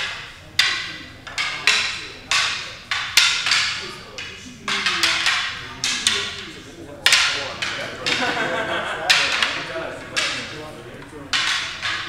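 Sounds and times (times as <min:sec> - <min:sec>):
wooden weapons clacking together: 0:00.0 - 0:12.0.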